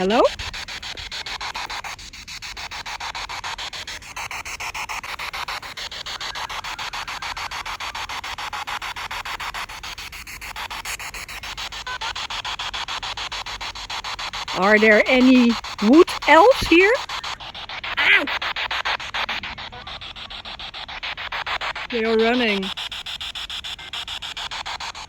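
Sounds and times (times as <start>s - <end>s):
pulsing radio static: 0.0s - 25.0s.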